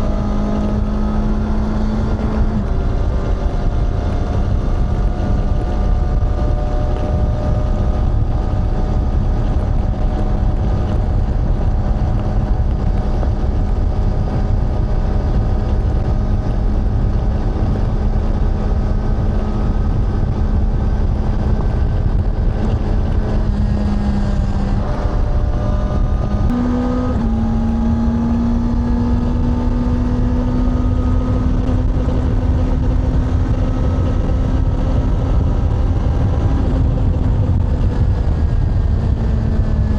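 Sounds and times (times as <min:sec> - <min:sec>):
heavy low rumble: 0:00.0 - 0:39.9
motorcycle engine cruising: 0:00.0 - 0:39.9.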